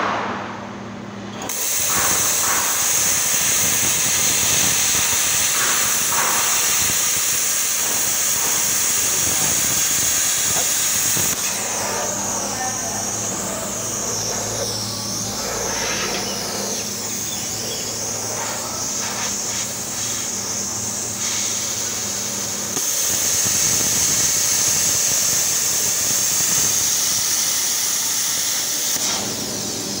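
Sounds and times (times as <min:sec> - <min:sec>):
plasma cutter hissing: 0:01.4 - 0:30.0.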